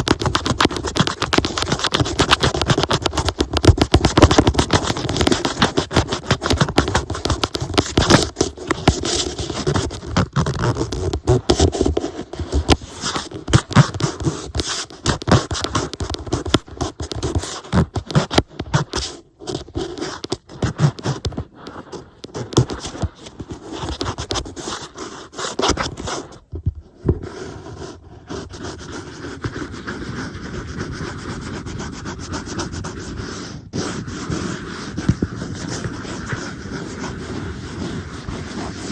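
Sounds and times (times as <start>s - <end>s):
scratching on a tablet screen: 0.0s - 38.9s.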